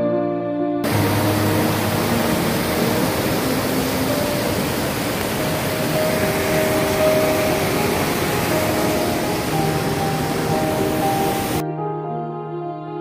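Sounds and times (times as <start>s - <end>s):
soft music: 0.0s - 13.0s
waterfall rushing: 0.8s - 11.6s.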